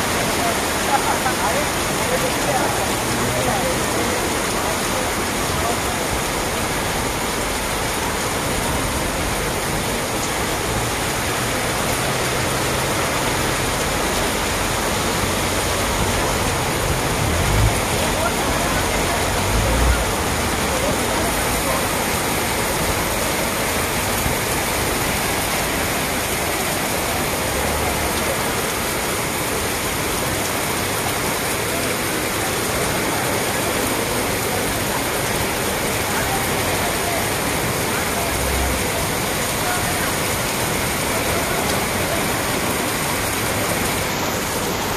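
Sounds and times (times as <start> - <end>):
cars driving through water: 0.0 - 44.9
heavy rain pouring: 0.0 - 44.9.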